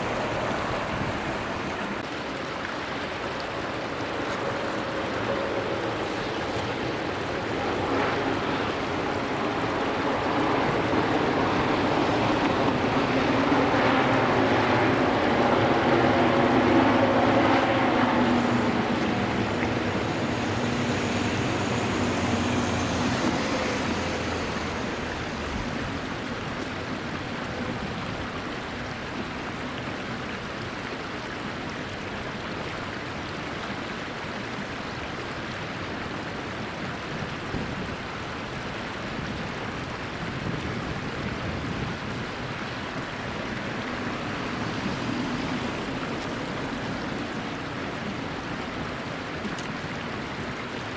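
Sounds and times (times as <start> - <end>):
stream rushing: 0.0 - 50.9.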